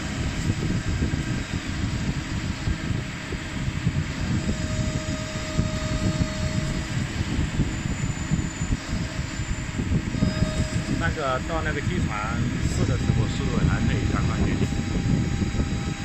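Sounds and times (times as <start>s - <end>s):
faint machine whine: 0.0s - 16.0s
machinery low rumble: 0.0s - 16.0s.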